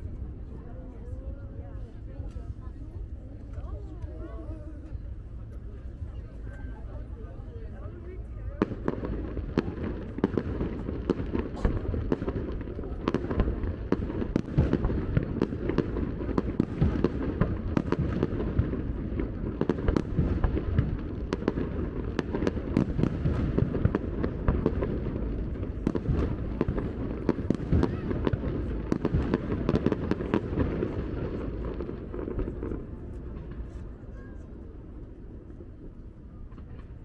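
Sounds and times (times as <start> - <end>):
continuous low rumble: 0.0 - 37.0
fireworks bangs and crackles: 0.0 - 37.0.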